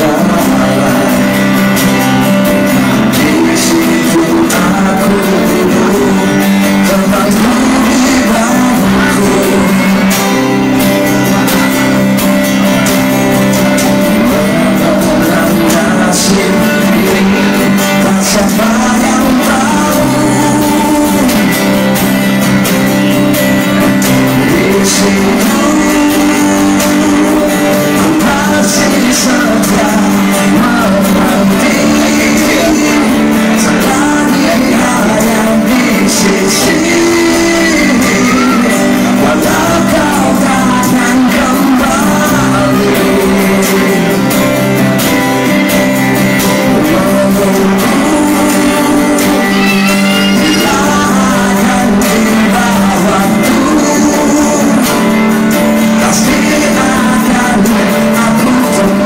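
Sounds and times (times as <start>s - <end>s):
instrumental accompaniment: 0.0s - 59.0s
person singing: 0.0s - 59.0s.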